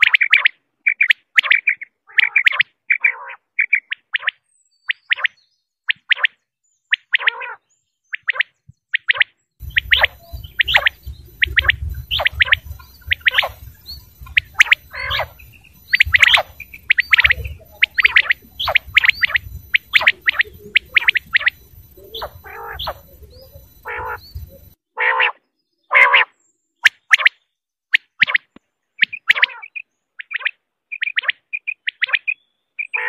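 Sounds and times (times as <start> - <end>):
quail calling: 0.0 - 27.4, 28.0 - 33.0.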